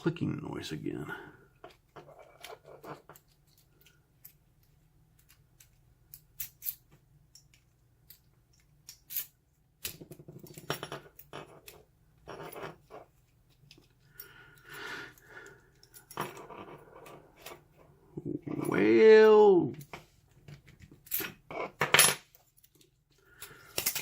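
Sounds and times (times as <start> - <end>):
scraping and handling noise: 1.4 - 19.0, 19.7 - 24.0.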